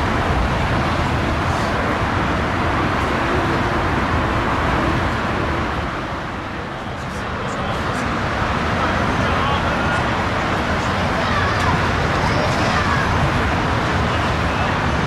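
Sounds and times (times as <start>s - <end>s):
jet engines roaring on landing rollout: 0.0s - 15.0s.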